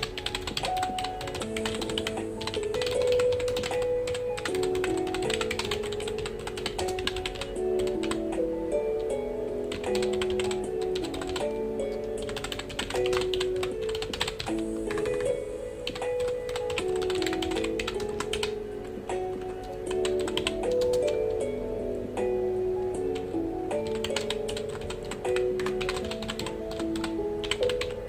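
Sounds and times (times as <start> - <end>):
typing on computer keyboard: 0.0 - 18.6, 19.3 - 21.4, 23.8 - 28.0
soft background music: 0.0 - 28.0.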